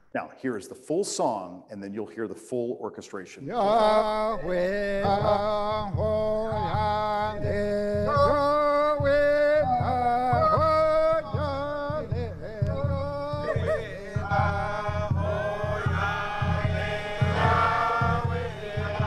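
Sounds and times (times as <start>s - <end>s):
voices singing chanted melody: 3.4s - 19.0s
steady low beat: 3.5s - 19.0s.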